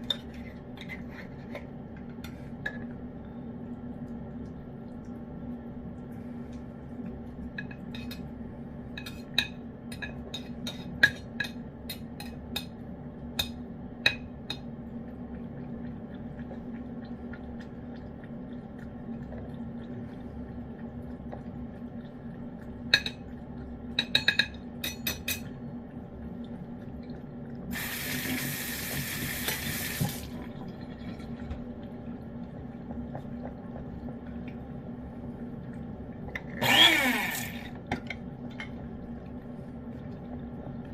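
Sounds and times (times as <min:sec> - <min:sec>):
steady low hum: 0:00.0 - 0:27.9, 0:30.1 - 0:40.9.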